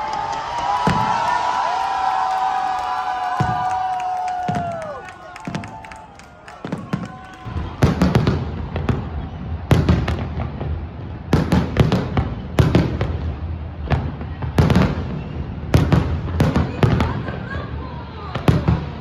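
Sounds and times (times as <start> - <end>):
fireworks exploding: 0.0 - 19.0.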